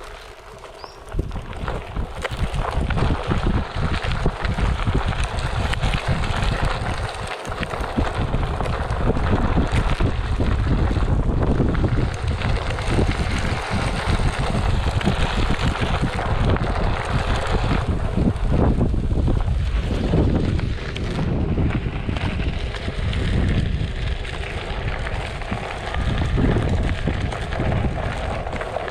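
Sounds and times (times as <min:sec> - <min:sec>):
tire rolling on dirt trail: 0:00.0 - 0:28.9
wind buffeting microphone: 0:00.0 - 0:28.9.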